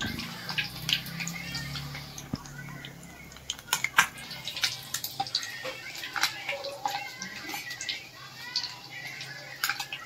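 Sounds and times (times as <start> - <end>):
fish sizzling in hot oil: 0.0 - 10.0
oil crackling and popping: 0.0 - 10.0.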